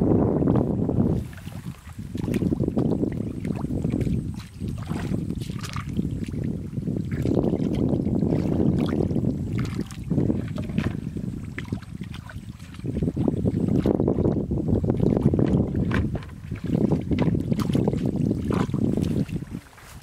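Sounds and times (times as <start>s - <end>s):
wind rumbling on microphone: 0.0s - 20.0s
hands sloshing in muddy water: 1.1s - 20.0s
short water splashes: 1.1s - 20.0s.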